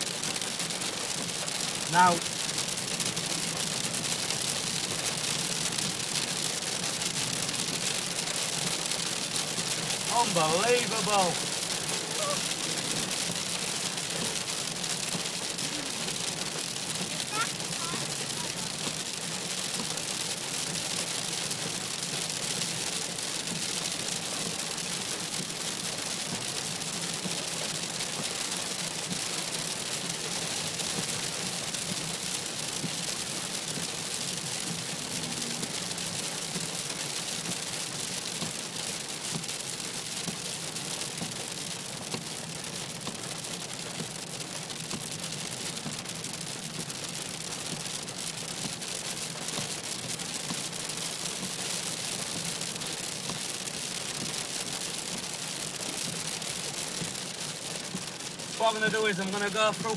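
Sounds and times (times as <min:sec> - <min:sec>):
heavy rain on car windscreen: 0:00.0 - 0:59.9.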